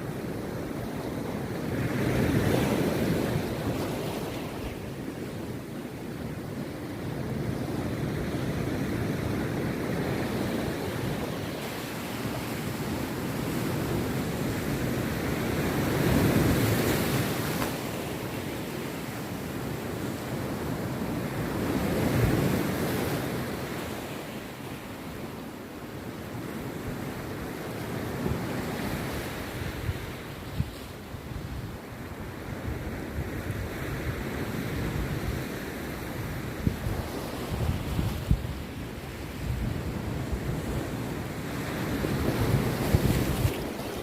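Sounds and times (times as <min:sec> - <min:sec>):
rough surf breaking on beach: 0:00.0 - 0:44.0.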